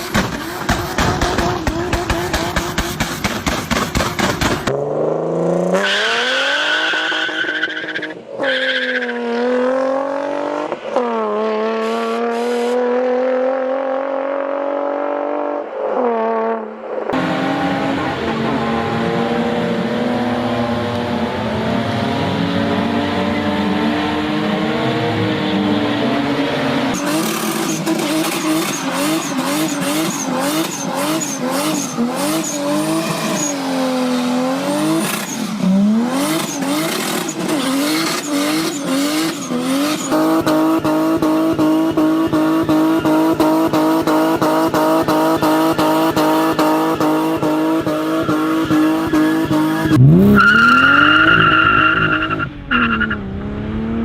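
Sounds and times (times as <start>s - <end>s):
car engine revving hard: 9.2s - 15.6s, 17.2s - 54.0s.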